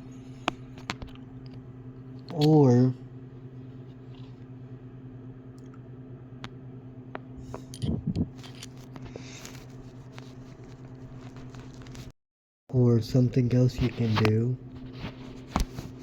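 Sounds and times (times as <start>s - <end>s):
steady low hum: 0.0s - 12.1s, 12.7s - 16.0s.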